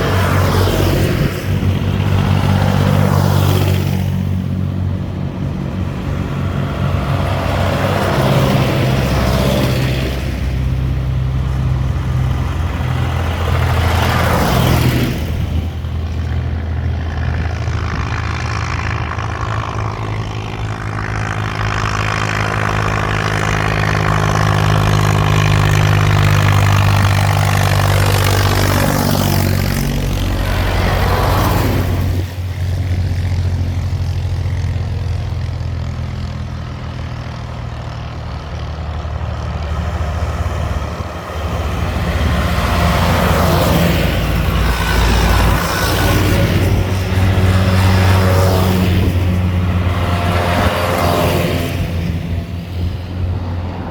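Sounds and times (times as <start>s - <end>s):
tractor engines passing: 0.0s - 53.9s.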